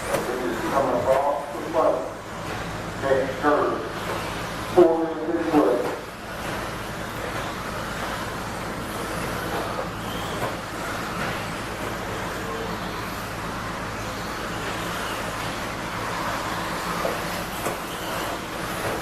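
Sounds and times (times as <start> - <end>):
rc truck motor whine: 0.0 - 19.0.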